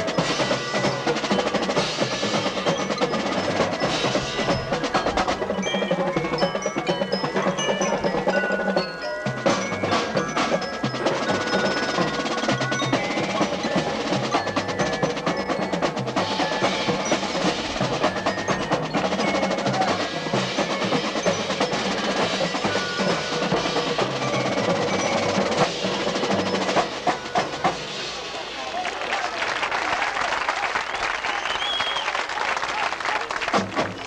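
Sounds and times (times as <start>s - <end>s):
mallet percussion ringing: 0.0s - 28.8s
fast snare drum strokes: 0.0s - 29.3s, 33.2s - 34.0s.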